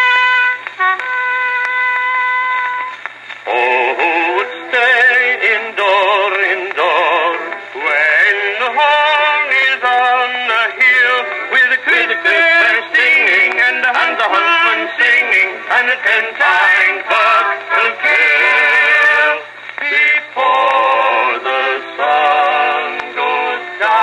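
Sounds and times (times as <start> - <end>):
singer on phonograph record: 0.0 - 24.0.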